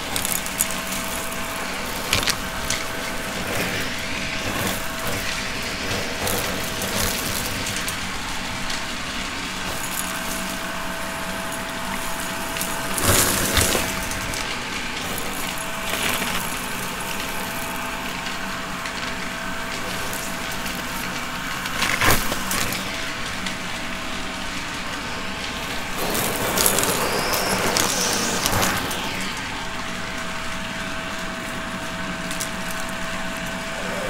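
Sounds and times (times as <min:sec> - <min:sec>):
crunching and crackling: 0:00.0 - 0:34.0
steady motor hum: 0:00.0 - 0:34.0.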